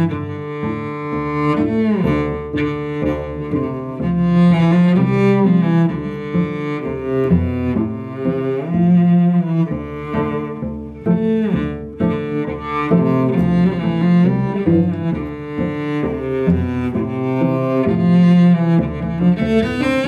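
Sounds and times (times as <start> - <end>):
cellos playing bowed duet: 0.0 - 20.0.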